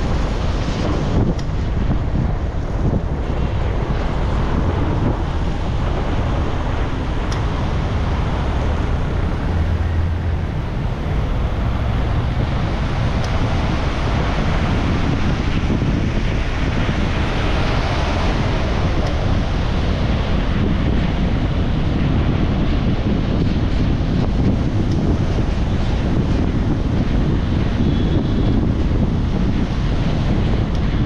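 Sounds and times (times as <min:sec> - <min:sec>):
tyres on the road: 0:00.0 - 0:31.0
wind rumbling on microphone: 0:00.0 - 0:31.0.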